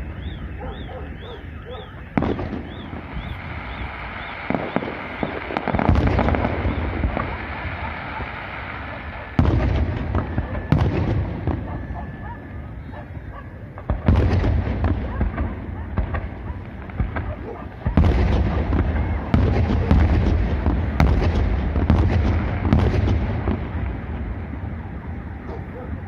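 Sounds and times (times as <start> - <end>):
firework shells booming: 0.0 - 12.9, 13.7 - 24.4
firework crackle: 1.5 - 25.3.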